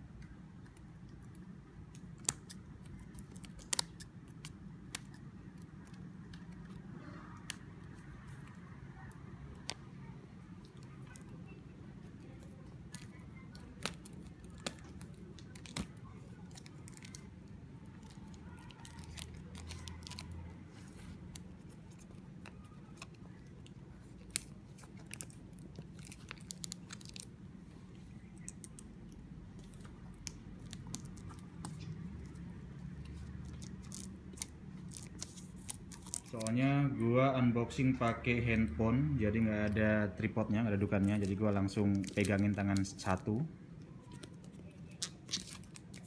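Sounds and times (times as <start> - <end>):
plastic wrap crinkling: 1.1 - 36.9, 39.4 - 46.0.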